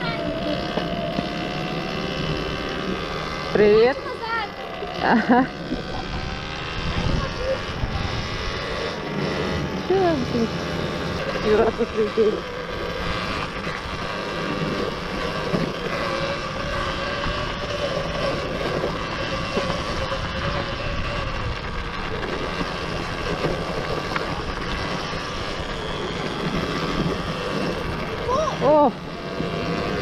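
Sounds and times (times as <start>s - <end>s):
faint wavering motor whine: 0.0s - 30.0s
wind rushing over microphone: 5.2s - 30.0s.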